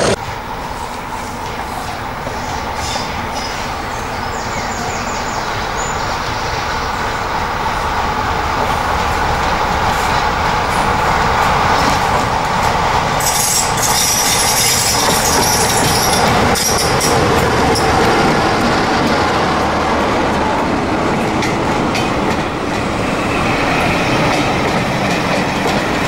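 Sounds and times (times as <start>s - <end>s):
diesel locomotive engine: 0.0s - 26.0s.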